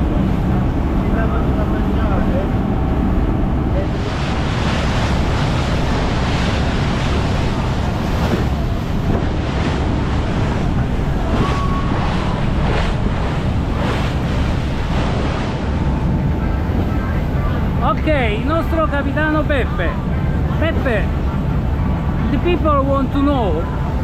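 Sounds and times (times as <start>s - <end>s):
water rushing past motorboat: 0.0s - 24.0s
wind buffeting microphone: 0.0s - 24.0s.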